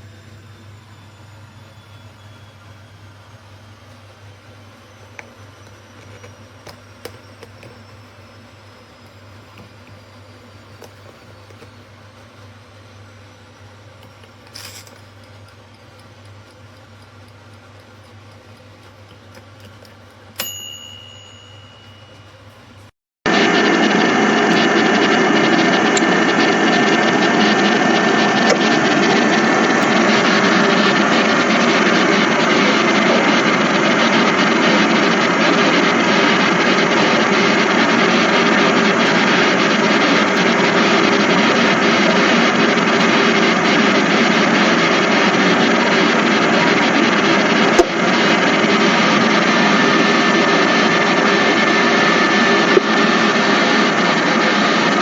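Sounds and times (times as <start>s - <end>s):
convection fan running: 0.0s - 55.0s.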